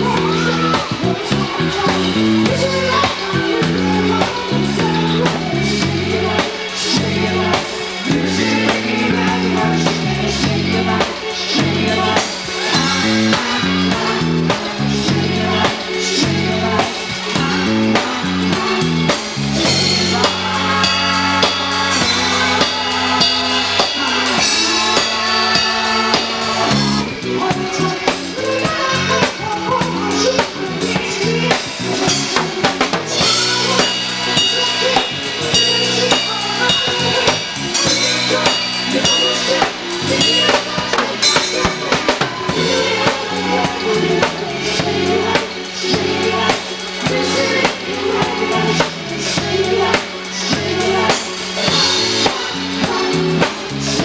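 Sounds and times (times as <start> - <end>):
held chords: 0.0 - 28.4, 32.0 - 54.0
bass line: 0.0 - 54.0
drum kit beat: 0.0 - 54.0
live dance band playing: 0.0 - 54.0.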